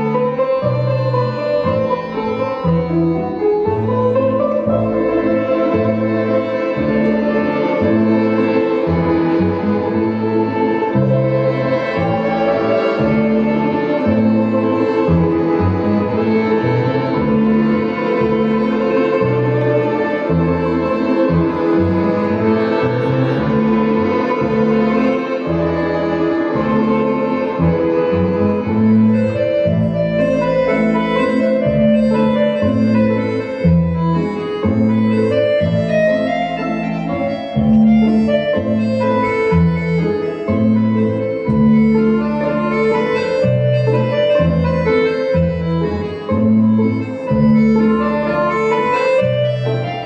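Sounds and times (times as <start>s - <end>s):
bass line: 0.0s - 50.0s
bowed strings melody: 0.0s - 50.0s
instrumental music with held chords: 0.0s - 50.0s.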